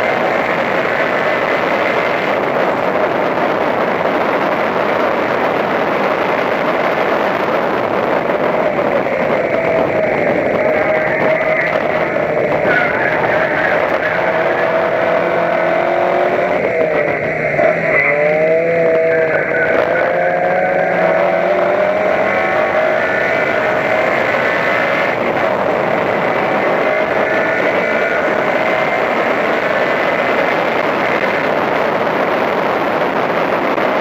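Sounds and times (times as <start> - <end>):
racing car engine revving: 0.0 - 34.0.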